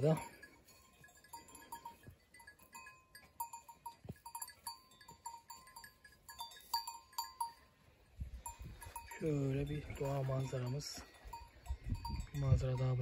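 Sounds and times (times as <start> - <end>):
animal bell clinking: 0.0 - 13.0.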